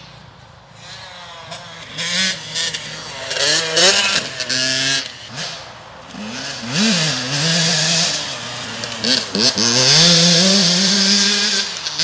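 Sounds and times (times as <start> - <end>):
dirt bike engine revving: 0.8 - 12.0.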